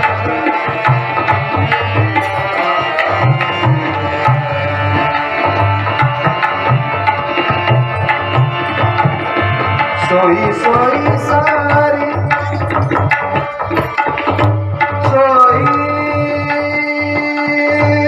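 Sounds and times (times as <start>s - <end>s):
sliding melody: 0.0s - 16.9s
harmonium notes: 0.0s - 18.0s
tabla rhythm: 0.0s - 18.0s.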